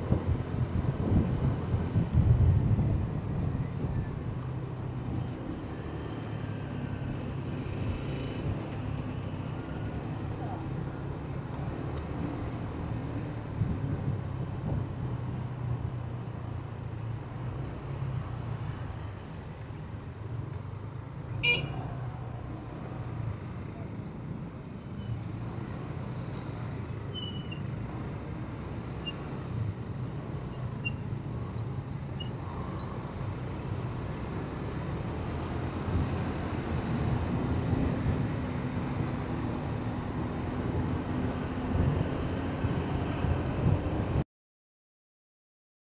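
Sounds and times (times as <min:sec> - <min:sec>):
traffic engines and road noise: 0:00.0 - 0:44.2.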